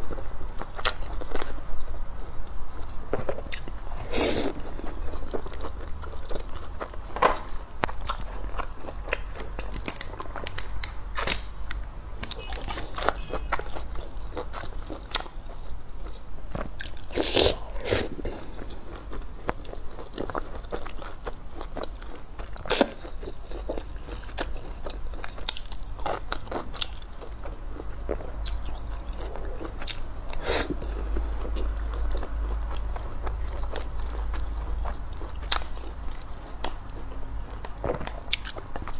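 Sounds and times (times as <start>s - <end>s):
person chewing with crunches: 0.0s - 38.9s.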